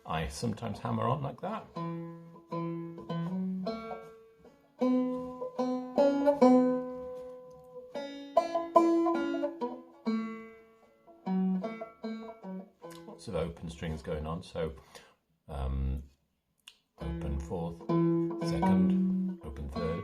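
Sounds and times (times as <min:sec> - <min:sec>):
banjo plucked melody: 0:00.0 - 0:15.0, 0:17.0 - 0:20.0.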